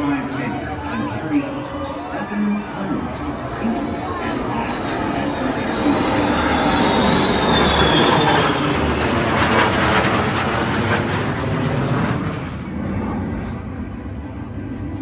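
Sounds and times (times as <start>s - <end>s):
jet planes roaring overhead: 0.0s - 15.0s.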